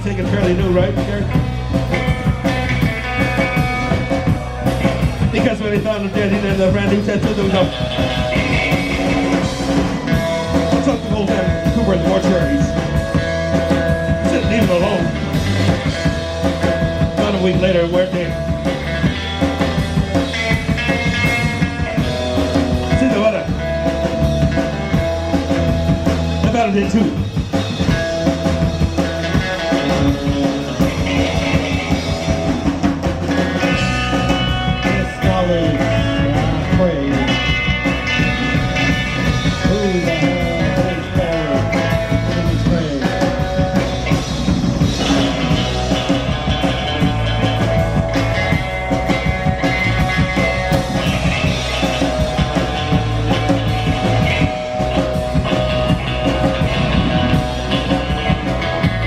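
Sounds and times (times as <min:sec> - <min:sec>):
electric guitar sliding notes: 0:00.0 - 0:59.0
live rock band playing: 0:00.0 - 0:59.0.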